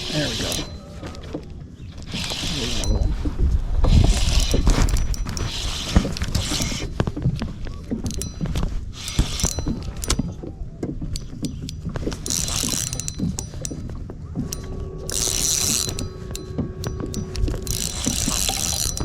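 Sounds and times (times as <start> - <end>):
fishing reel gears clicking: 0.0 - 0.8, 2.0 - 3.1, 3.8 - 6.9, 8.0 - 10.4, 11.1 - 19.0.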